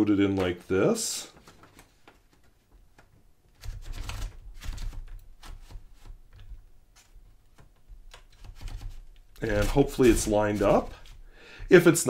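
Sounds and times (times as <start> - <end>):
paper rustle: 0.4 - 2.6, 3.6 - 11.2.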